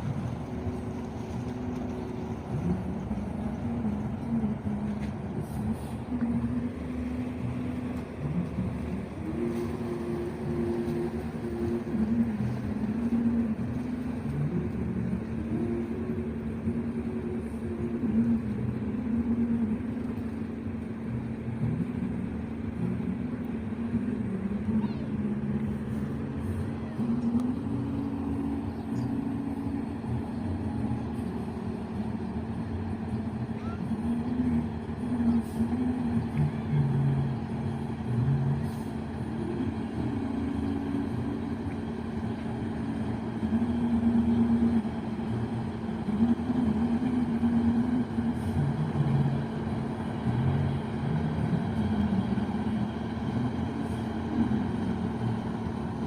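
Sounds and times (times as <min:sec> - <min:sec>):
outdoor noise: 0:00.0 - 0:56.0
vehicle engines humming: 0:00.0 - 0:56.0.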